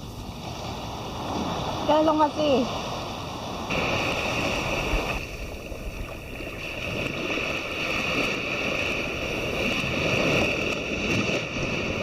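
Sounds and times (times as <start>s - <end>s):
sea water sloshing in surf: 0.0s - 12.0s.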